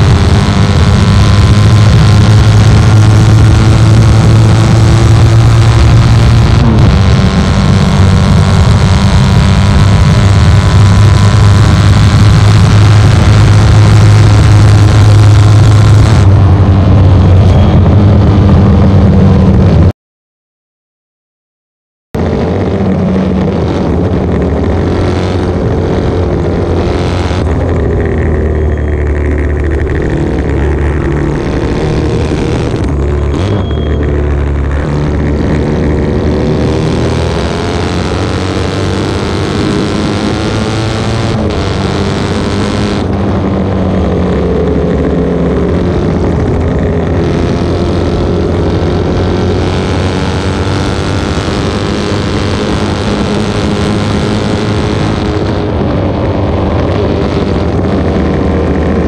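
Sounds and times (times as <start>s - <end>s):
motorcycle race engine revving: 0.0s - 19.9s, 22.2s - 59.0s.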